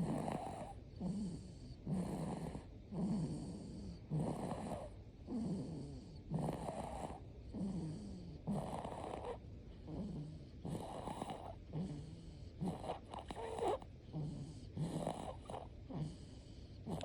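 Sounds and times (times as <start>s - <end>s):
person snoring: 0.0s - 17.0s.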